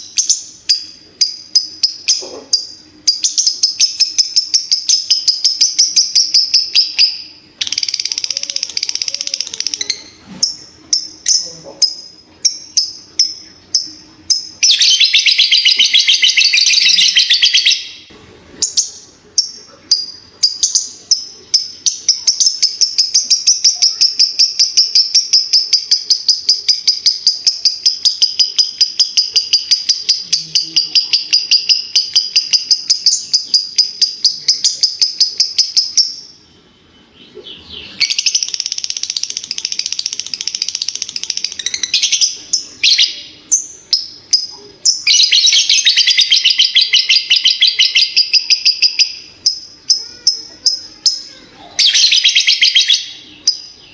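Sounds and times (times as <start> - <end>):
lovebird shrill chattering trill: 0.0 - 36.4, 37.9 - 53.9.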